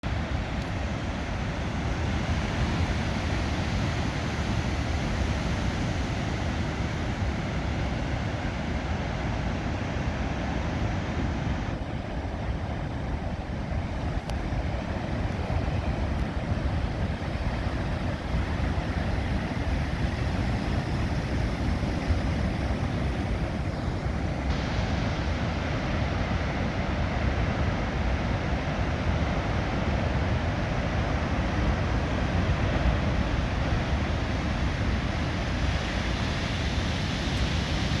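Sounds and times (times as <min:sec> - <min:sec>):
ocean waves breaking: 0:00.0 - 0:38.0
wind buffeting microphone: 0:00.0 - 0:38.0.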